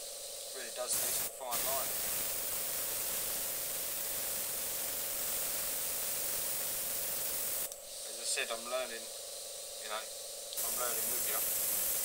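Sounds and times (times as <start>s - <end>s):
airbrush hissing: 0.0s - 12.0s.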